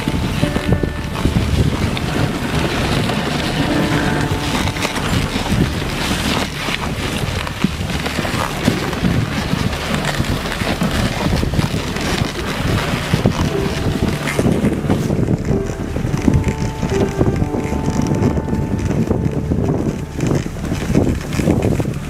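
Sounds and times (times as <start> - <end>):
sled running across snow: 0.0 - 22.0
wind buffeting microphone: 0.0 - 22.0.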